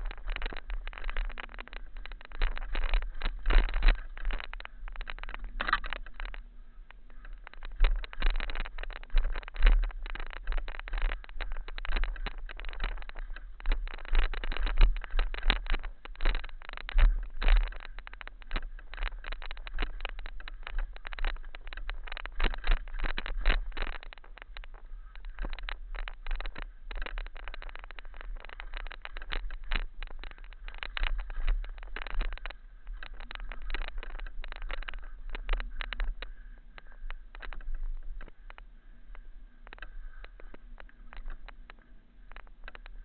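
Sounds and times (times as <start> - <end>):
bike rattling over rocky trail: 0.0 - 43.0.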